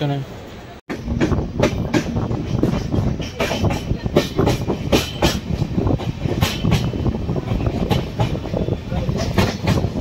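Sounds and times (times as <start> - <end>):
train low rumble: 0.0 - 10.0
wheels clattering over rail joints: 0.9 - 10.0.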